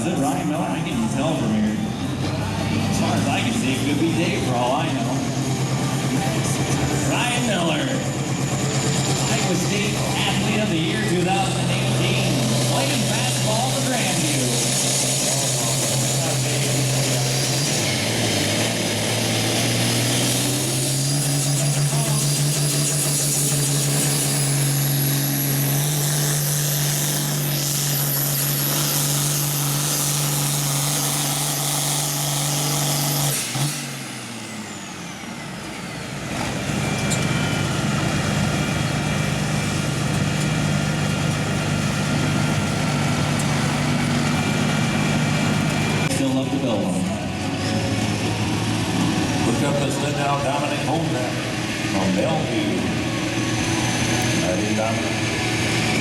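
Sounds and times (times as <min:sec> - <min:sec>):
tractor diesel engine at full throttle: 0:00.0 - 0:56.0.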